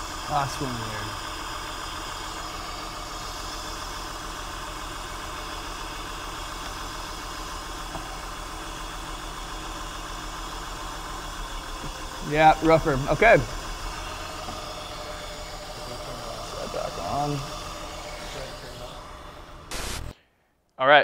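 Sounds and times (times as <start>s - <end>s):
car engine idling with misfire: 0.0s - 20.1s.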